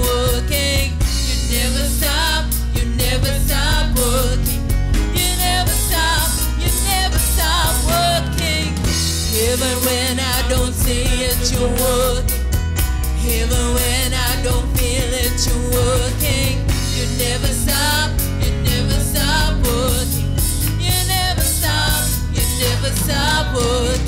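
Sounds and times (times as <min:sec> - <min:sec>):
woman singing: 0:00.0 - 0:12.4, 0:13.1 - 0:24.0
drum kit beat: 0:00.0 - 0:24.0
electric bass guitar: 0:00.0 - 0:24.0.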